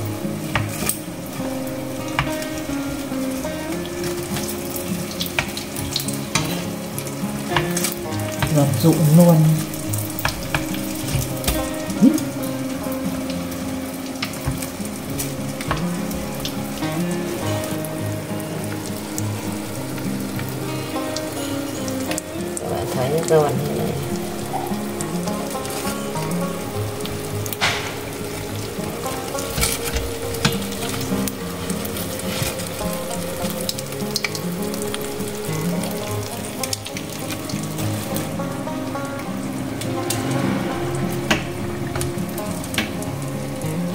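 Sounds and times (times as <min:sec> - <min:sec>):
food frying in oil: 0:00.0 - 0:43.9.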